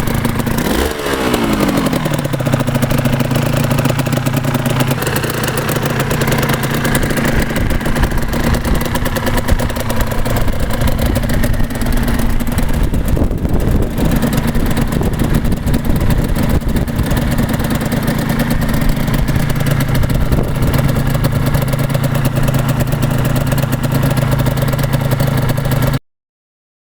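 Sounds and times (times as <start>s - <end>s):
two-stroke engine running: 0.0s - 26.0s.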